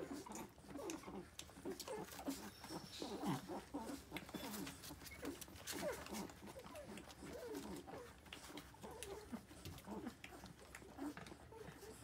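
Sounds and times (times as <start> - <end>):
puppies squeaking: 0.0 - 12.0.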